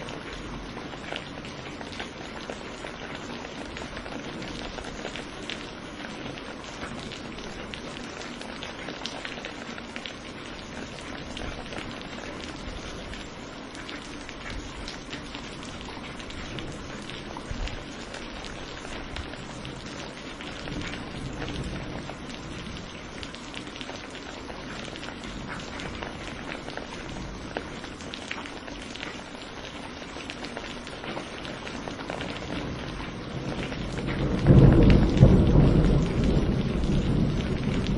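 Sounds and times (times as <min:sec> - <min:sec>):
steady rain hiss: 0:00.0 - 0:37.9.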